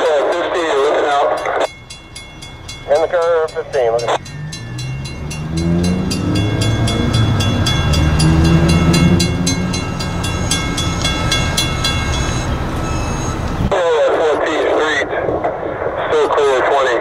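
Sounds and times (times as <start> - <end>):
railroad crossing bell ringing: 0.0 - 13.7
diesel locomotive engine rumble: 0.0 - 16.9.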